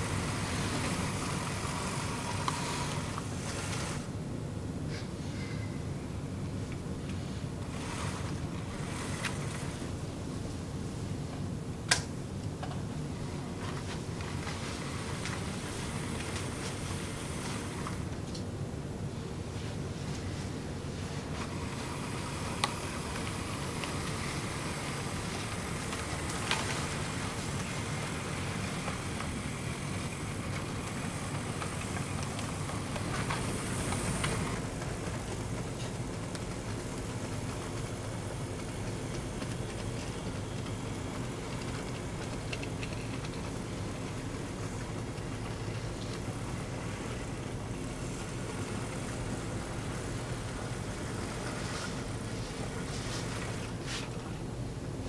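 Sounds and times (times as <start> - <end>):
model locomotive humming: 0.0 - 4.2, 4.9 - 55.0.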